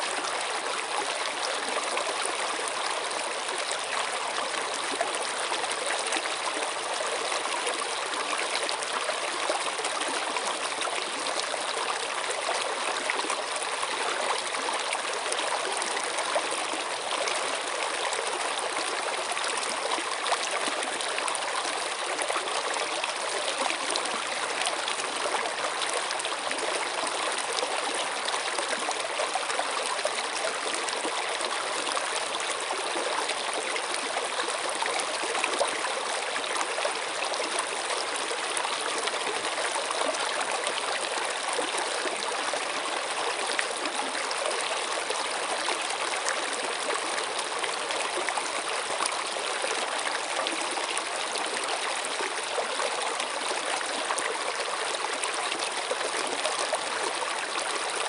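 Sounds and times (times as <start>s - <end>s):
stream running over stones: 0.0s - 58.0s.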